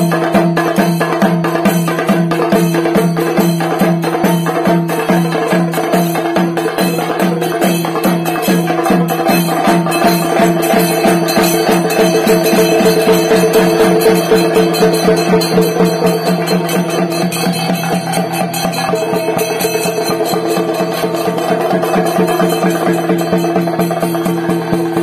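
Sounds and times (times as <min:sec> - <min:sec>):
drums beaten with sticks: 0:00.0 - 0:25.0.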